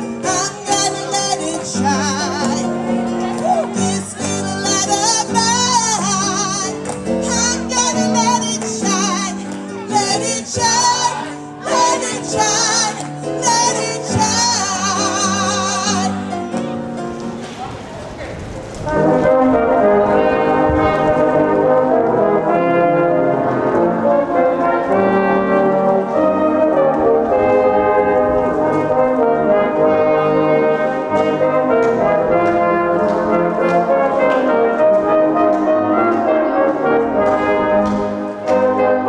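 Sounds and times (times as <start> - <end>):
brass band playing: 0.0 - 39.0.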